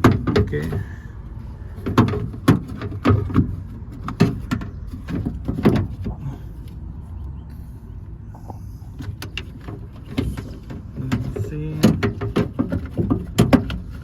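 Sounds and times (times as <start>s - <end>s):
knocks and clunks of car parts: 0.0s - 7.5s, 8.3s - 14.0s.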